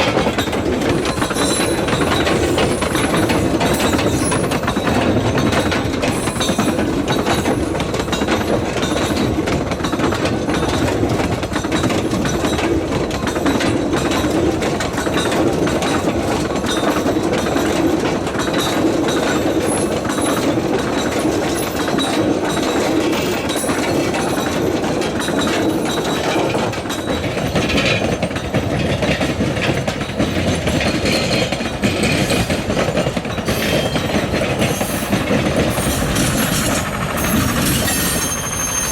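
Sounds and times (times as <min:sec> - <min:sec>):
train wagons clattering on rails: 0:00.0 - 0:38.9.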